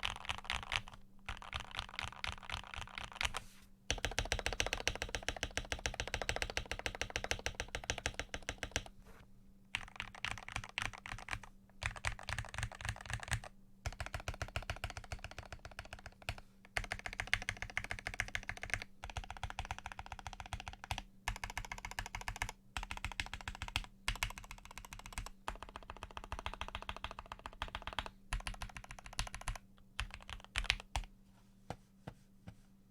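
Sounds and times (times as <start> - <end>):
fast typing on mechanical keyboard: 0.0 - 8.9, 9.7 - 31.1.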